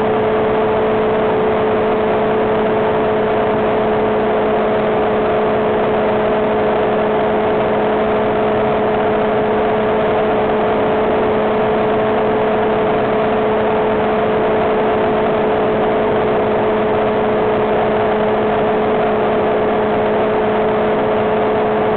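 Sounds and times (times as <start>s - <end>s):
engine and propeller drone: 0.0s - 21.9s.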